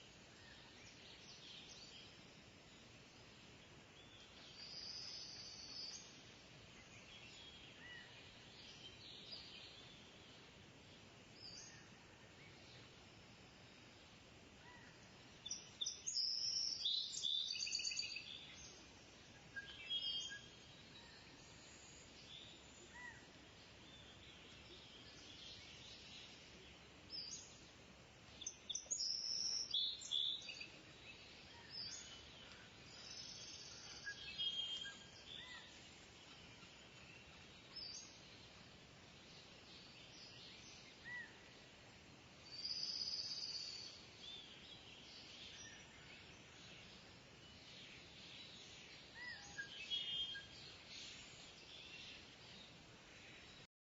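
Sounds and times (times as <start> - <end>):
steady background hiss: 0.0 - 53.7.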